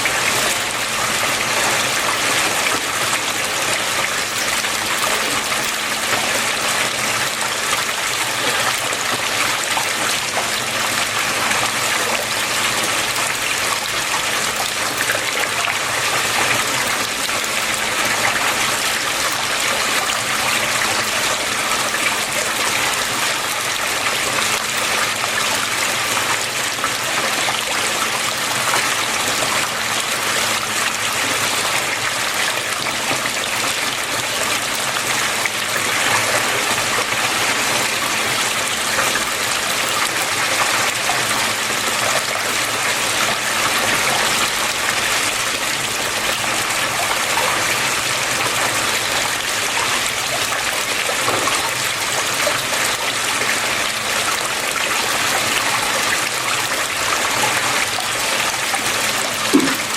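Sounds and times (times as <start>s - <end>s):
water flowing and trickling: 0.0s - 59.9s.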